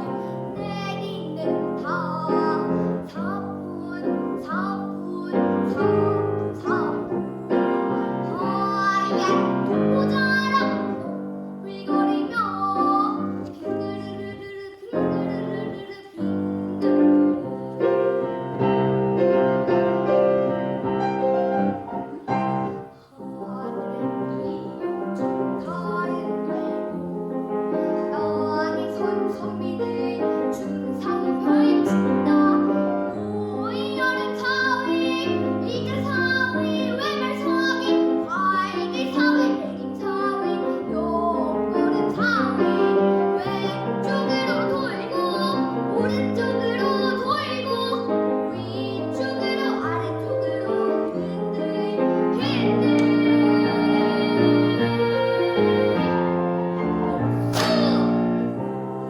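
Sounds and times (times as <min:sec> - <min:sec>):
child singing: 0:00.0 - 0:18.0, 0:22.1 - 0:56.2, 0:57.6 - 0:58.6
piano accompaniment: 0:00.0 - 0:59.0.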